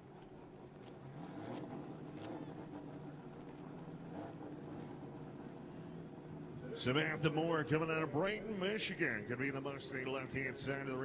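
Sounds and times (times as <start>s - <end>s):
distant car engine running: 0.0s - 11.0s.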